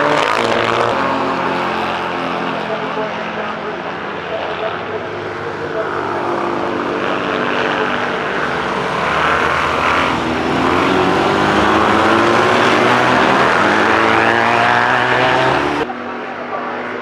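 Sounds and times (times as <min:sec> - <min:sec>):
racing engines accelerating: 0:00.0 - 0:17.0.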